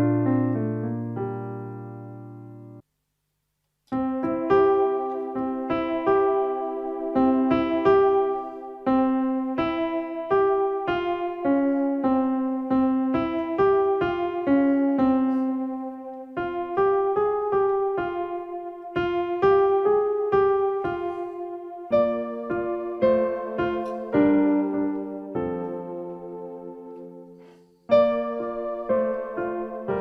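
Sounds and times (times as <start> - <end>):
digital piano slow melody: 0.0 - 2.8, 3.8 - 30.0.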